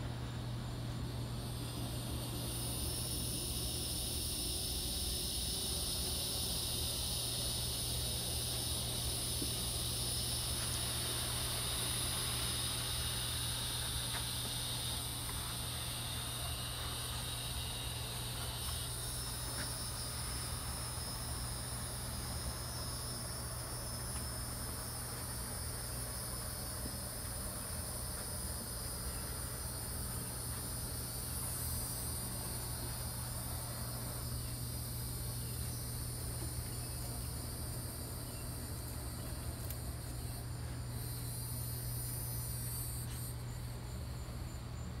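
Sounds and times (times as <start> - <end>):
insects trilling: 0.2 - 45.0.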